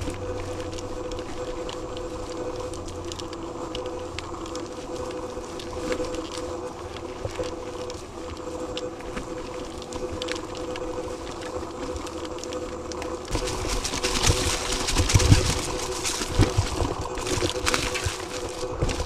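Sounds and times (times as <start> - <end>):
bike rattling: 0.0 - 19.0
mountain bike tyres on dirt trail: 0.0 - 19.0
steady hum: 0.0 - 19.0.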